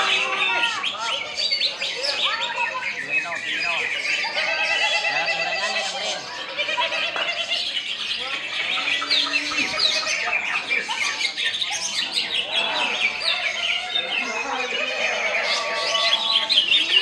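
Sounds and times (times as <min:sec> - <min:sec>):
birdsong chorus: 0:00.0 - 0:17.0
faint voices: 0:00.0 - 0:17.0.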